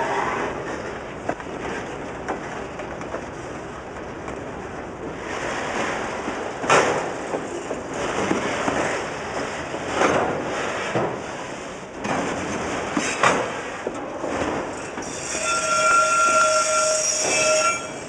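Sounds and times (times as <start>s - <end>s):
freight train wheels rattling on rail: 0.0s - 18.0s.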